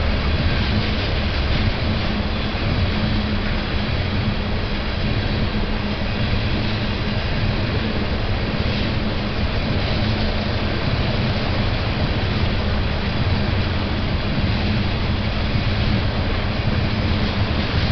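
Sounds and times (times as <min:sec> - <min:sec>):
train wheels on rail: 0:00.0 - 0:17.9.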